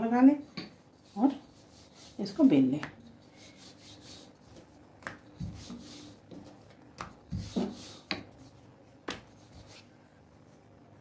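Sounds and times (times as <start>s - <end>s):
hands handling dough: 0.5s - 10.7s.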